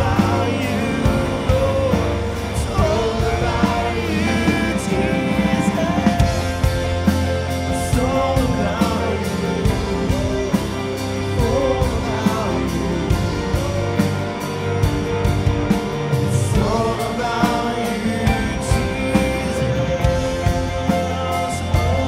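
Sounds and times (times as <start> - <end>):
live band playing: 0.0 - 22.0
person singing: 0.0 - 22.0.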